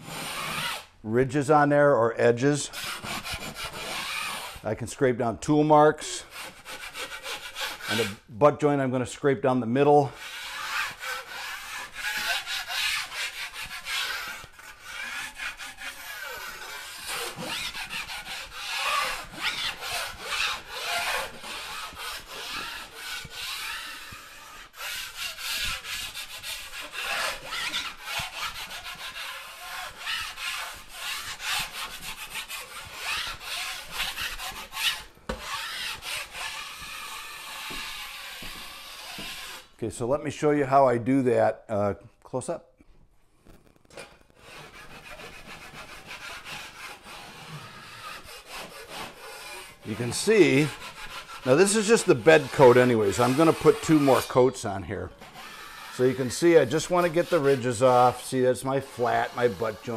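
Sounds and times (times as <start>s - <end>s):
drywall knife scraping compound: 0.0s - 40.8s, 43.9s - 59.9s.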